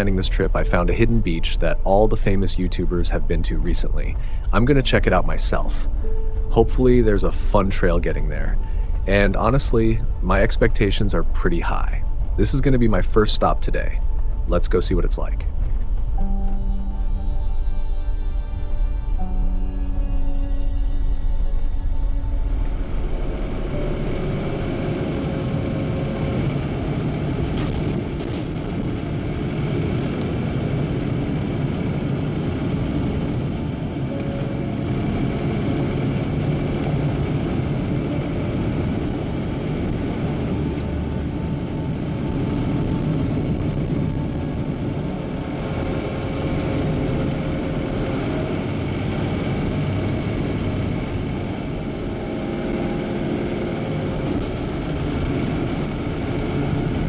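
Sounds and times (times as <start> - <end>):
car engine and tyre noise: 0.0 - 17.5, 21.8 - 57.0.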